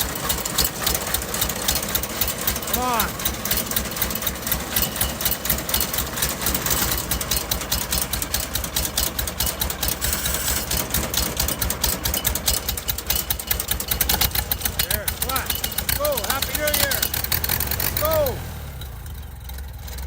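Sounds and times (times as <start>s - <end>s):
gasoline engine chugging: 0.0s - 20.0s.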